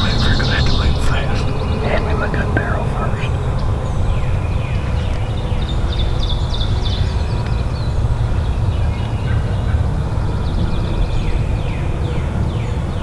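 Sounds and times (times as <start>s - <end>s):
songbirds chirping: 0.0s - 11.9s.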